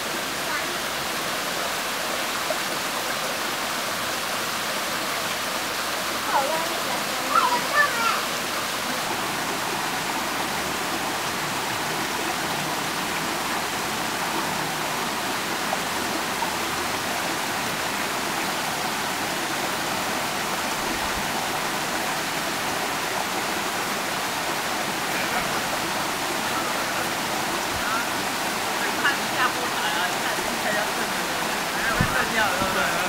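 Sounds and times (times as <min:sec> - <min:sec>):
stream rushing: 0:00.0 - 0:33.0.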